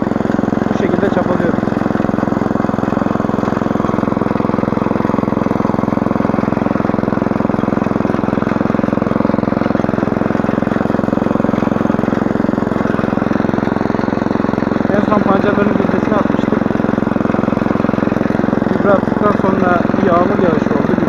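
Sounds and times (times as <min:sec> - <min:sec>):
rotary tines working soil: 0:00.0 - 0:21.0
small petrol engine running: 0:00.0 - 0:21.0.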